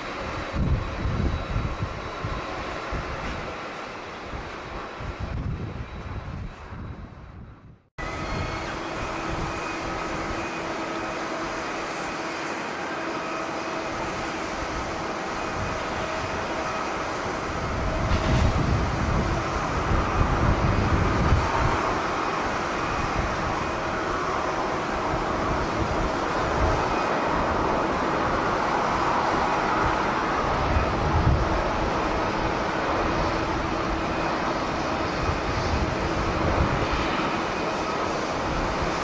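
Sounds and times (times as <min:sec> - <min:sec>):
jet engines whining: 0:00.0 - 0:07.4, 0:08.0 - 0:39.0
wind buffeting microphone: 0:00.0 - 0:12.5, 0:13.5 - 0:39.0.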